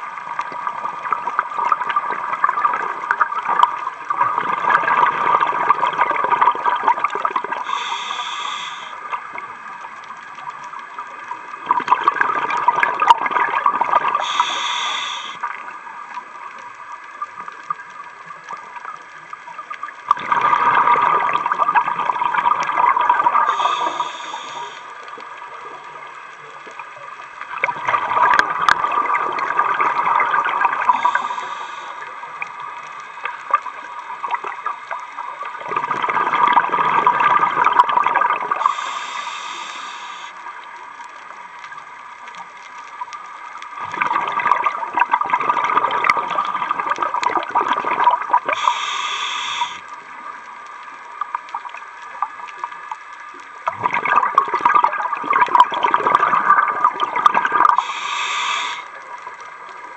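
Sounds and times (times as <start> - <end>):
exhaled bubbles gurgling underwater: 0.0 - 59.9.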